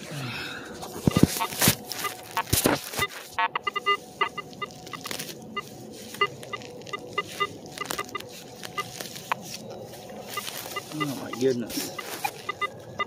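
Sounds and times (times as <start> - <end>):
hands rustling dry grass: 0.8 - 13.0
metal detector beeping: 1.0 - 13.0.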